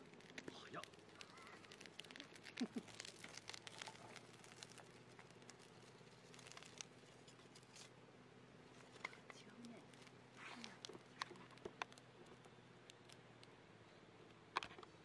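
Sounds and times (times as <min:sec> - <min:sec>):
rustling of wood shavings: 0:00.0 - 0:08.0, 0:08.6 - 0:13.5.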